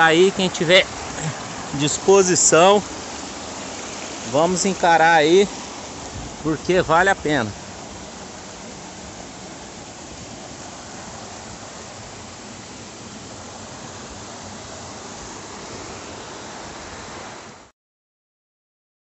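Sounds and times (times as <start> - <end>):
small waterfall rushing: 0.0 - 17.7.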